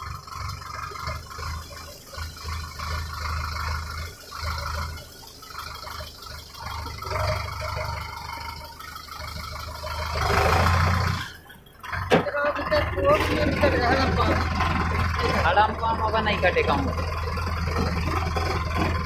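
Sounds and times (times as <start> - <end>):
harvesting machinery engine humming: 0.0 - 19.0.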